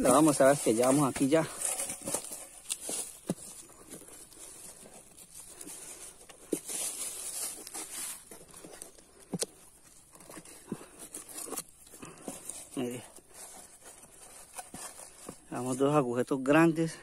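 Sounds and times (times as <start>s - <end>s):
plastic bag crinkling: 0.0s - 15.5s.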